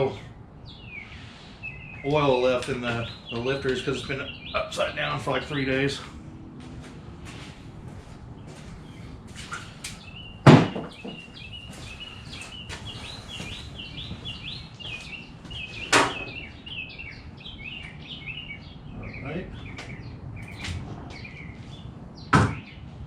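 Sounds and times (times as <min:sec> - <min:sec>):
bird chirping: 0:00.0 - 0:06.2, 0:08.4 - 0:22.9.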